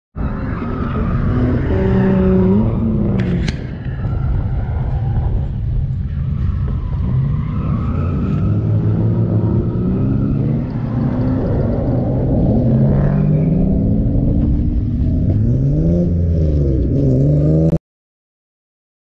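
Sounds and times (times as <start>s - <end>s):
car engine low rumble: 0.2s - 17.8s.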